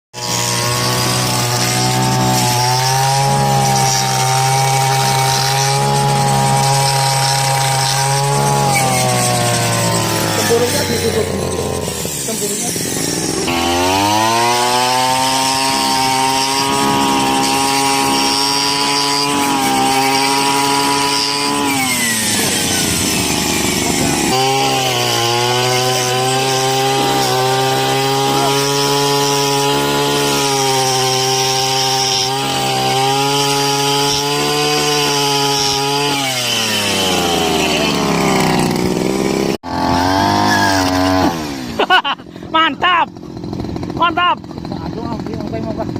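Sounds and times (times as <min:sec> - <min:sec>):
small engine revving while cutting: 0:00.2 - 0:45.9.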